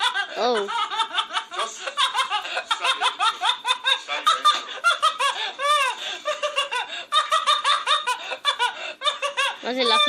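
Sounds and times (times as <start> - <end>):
person laughing hard: 0.0 - 10.0.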